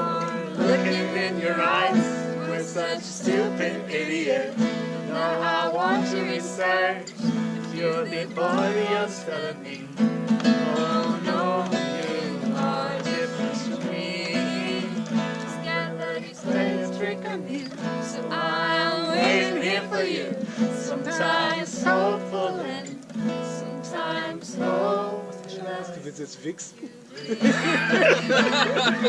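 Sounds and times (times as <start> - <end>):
person singing: 0.0 - 10.0, 10.6 - 26.1, 26.8 - 29.0
acoustic guitar strumming: 0.0 - 29.0.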